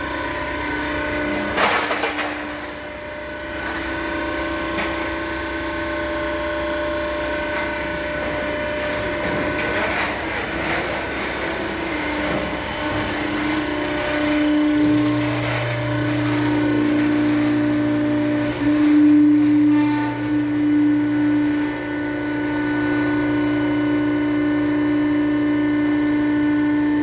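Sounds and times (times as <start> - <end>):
machine motor hum and whine: 0.0 - 27.0.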